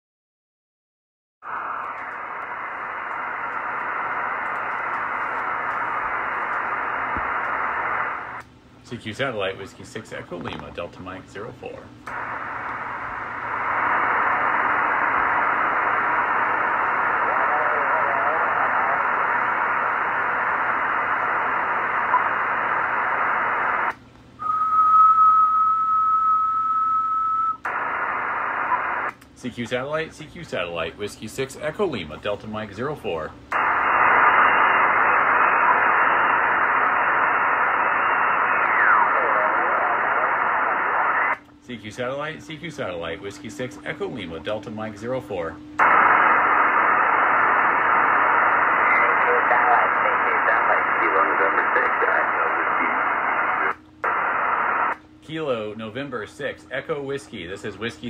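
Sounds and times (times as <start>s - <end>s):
radio receiver hiss: 1.4s - 8.6s, 12.1s - 24.0s, 27.6s - 32.0s, 33.5s - 58.0s.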